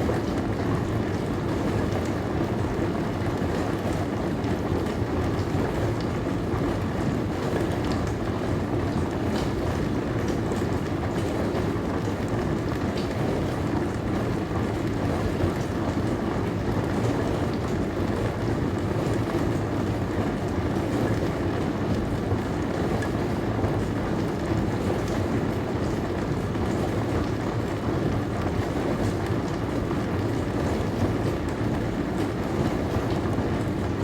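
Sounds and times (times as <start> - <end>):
dishwasher hum and water rush: 0.0 - 34.0.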